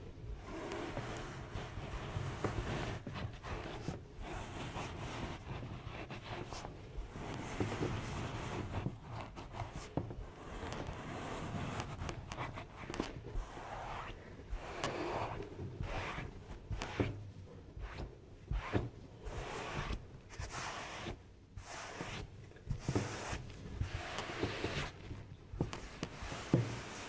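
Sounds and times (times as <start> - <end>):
close rubbing and scratching: 0.4 - 27.0.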